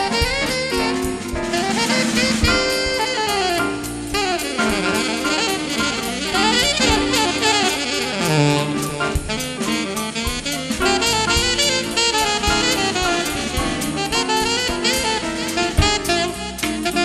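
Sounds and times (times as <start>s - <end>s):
drum kit cymbal beat: 0.0s - 17.0s
electric bass: 0.0s - 17.0s
saxophone runs: 0.0s - 17.0s.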